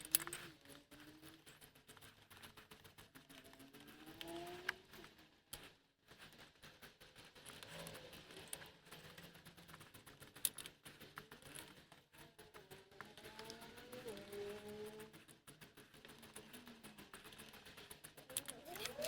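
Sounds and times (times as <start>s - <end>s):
hand tools and metal parts clinking: 0.0s - 19.0s.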